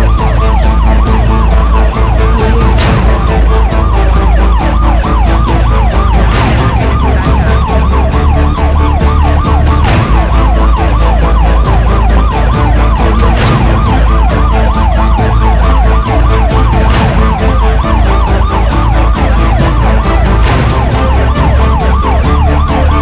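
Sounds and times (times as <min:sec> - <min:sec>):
deep steady bass: 0:00.0 - 0:23.0
emergency siren yelping: 0:00.0 - 0:23.0.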